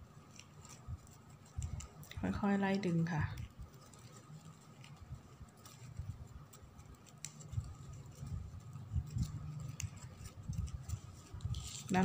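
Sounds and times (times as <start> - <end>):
ribbon rustling: 0.0 - 12.0.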